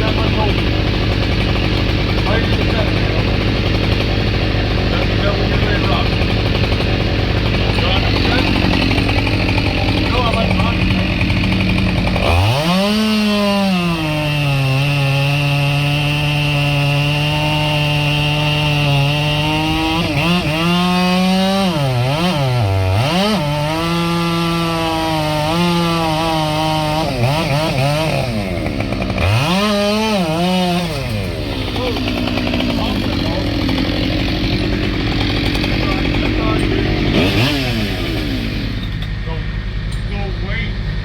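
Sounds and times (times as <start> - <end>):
chainsaw cutting wood: 0.0 - 40.0.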